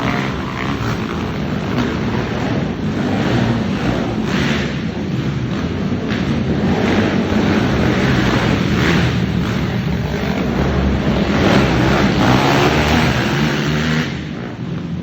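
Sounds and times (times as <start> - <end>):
quad engines revving: 0.0 - 15.0.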